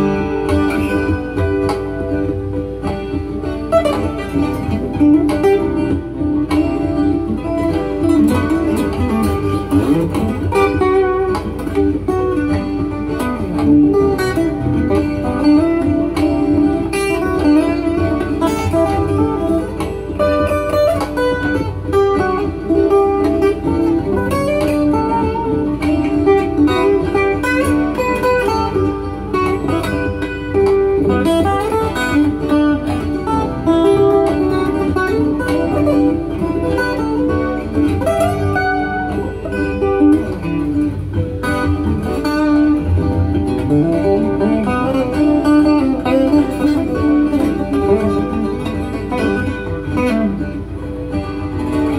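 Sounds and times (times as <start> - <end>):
looped acoustic guitar: 0.0 - 51.9.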